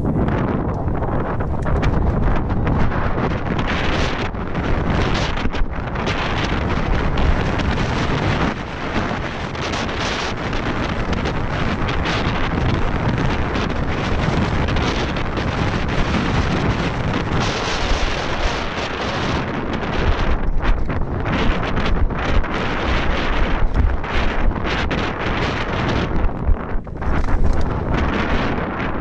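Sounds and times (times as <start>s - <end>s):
tyre and trail noise: 0.0s - 29.0s
wind buffeting microphone: 0.0s - 29.0s.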